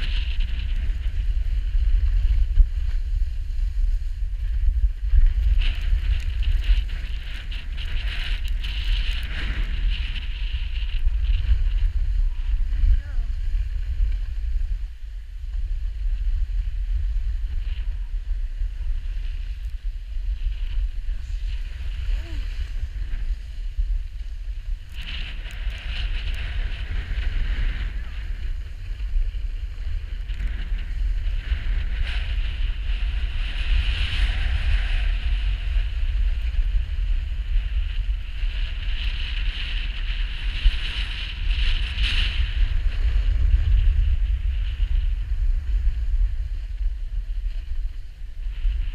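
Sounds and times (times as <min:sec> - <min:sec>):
skis sliding on snow: 0:00.0 - 0:48.9
wind buffeting microphone: 0:00.0 - 0:48.9.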